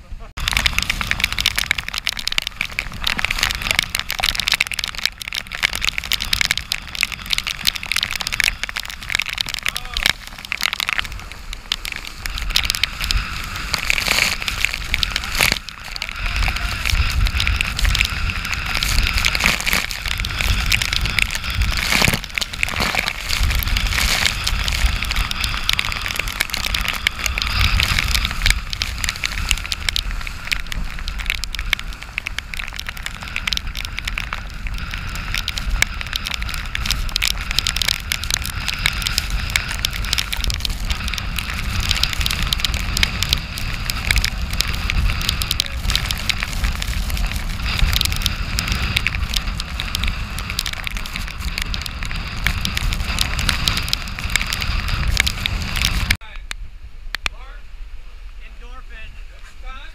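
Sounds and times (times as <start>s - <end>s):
wind rumbling on microphone: 0.0s - 59.9s
rain pattering on camera housing: 0.2s - 57.6s
water rushing along hull: 0.4s - 56.2s.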